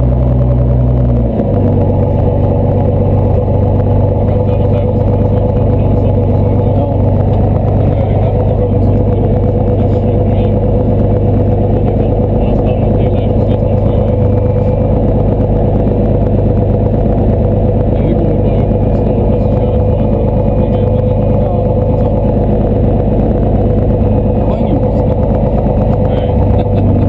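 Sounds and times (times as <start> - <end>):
aircraft piston engine and propeller: 0.0 - 27.0.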